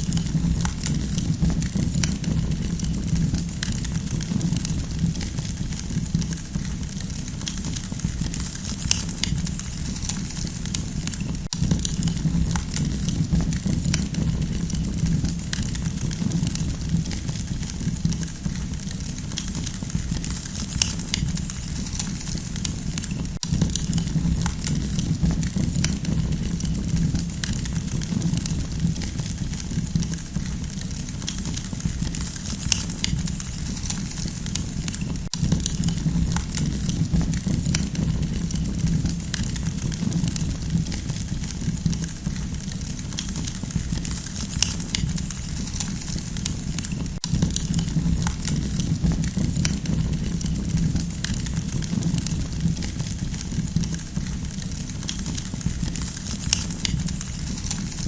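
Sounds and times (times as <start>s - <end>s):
campfire crackling: 0.0s - 58.0s
low rumble of burning fire: 0.0s - 58.0s.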